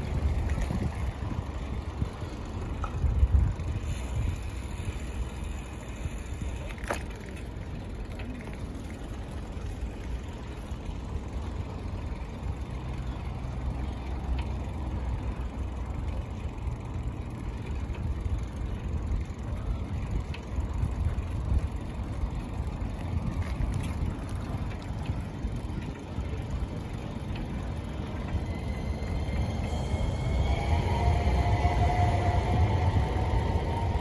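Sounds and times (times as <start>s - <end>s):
tyres rolling on asphalt: 0.0s - 34.0s.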